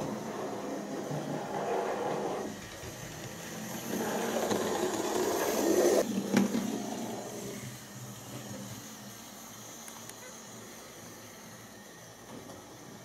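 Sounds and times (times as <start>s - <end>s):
model train motor and wheel rumble: 0.0s - 13.0s.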